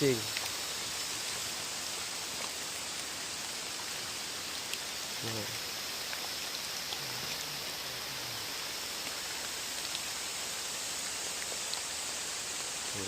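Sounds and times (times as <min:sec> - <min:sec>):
water hissing: 0:00.0 - 0:13.0.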